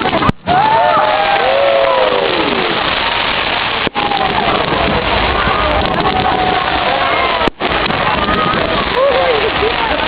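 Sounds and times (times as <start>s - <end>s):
crowd voices gliding down: 0.0s - 10.0s
fireworks crackling: 0.0s - 10.0s.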